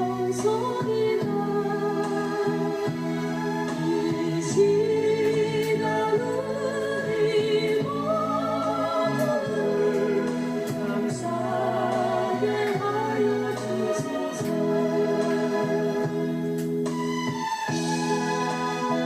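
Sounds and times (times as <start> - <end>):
person singing a hymn: 0.0 - 16.6
electronic organ chords: 0.0 - 19.0.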